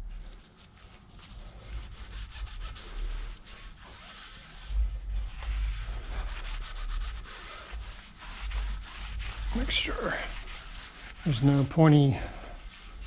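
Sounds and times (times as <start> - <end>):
hand scrubbing metal rim: 0.2 - 13.0.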